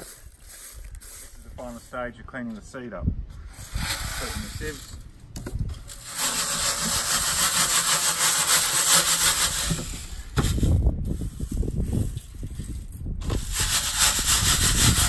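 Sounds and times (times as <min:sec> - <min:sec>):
seeds rustling in a sieve: 0:00.0 - 0:02.2, 0:03.4 - 0:05.1, 0:05.8 - 0:15.0.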